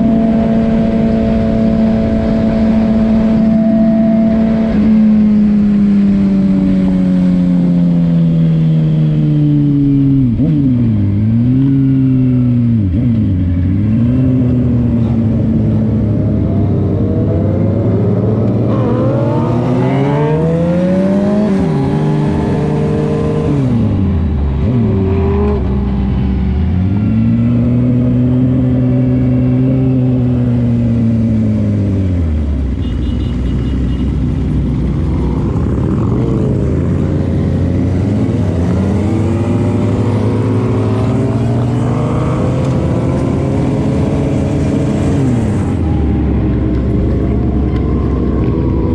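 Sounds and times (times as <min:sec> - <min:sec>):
vehicle engine accelerating and shifting: 0:00.0 - 0:48.9.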